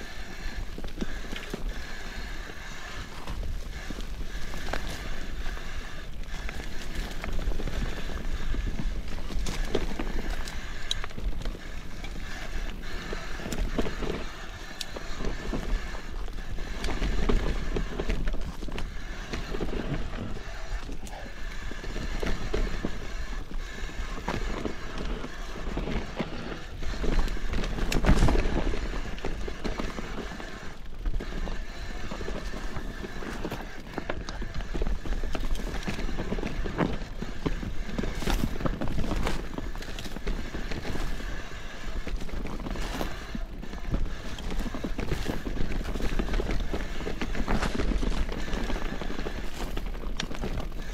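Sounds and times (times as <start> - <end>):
bike rattling over bumps: 0.0 - 50.9
bike tyres crunching over gravel: 0.0 - 50.9.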